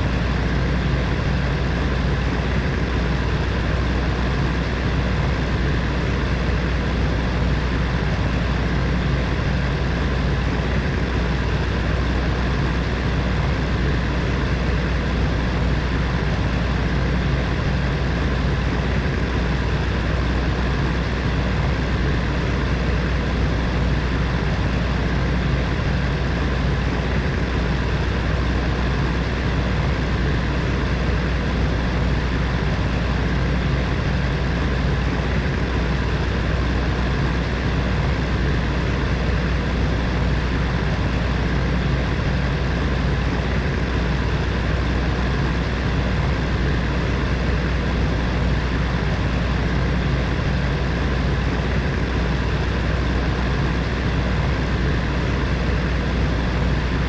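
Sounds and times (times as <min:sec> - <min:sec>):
space heater fan running: 0:00.0 - 0:57.0.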